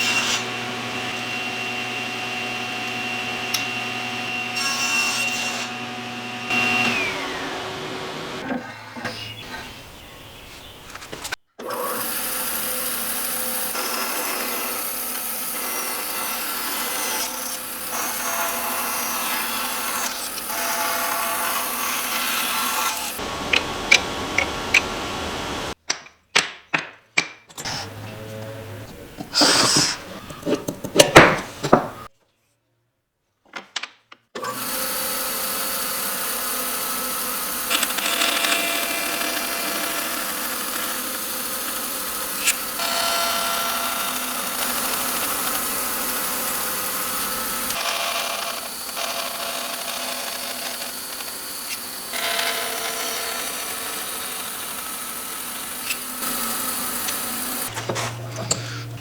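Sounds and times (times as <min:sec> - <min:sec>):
woodworking power tool running: 0:00.0 - 0:10.7, 0:11.6 - 0:25.8, 0:27.7 - 0:32.1, 0:34.4 - 0:59.0.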